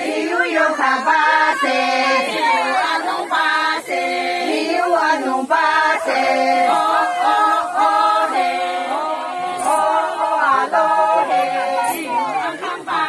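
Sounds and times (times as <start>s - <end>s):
women singing unaccompanied: 0.0s - 13.0s.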